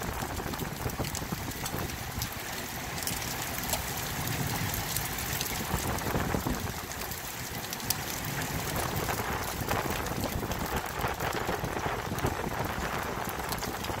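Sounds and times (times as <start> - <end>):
hailstones ticking: 0.0 - 14.0
heavy rain on concrete: 0.0 - 14.0.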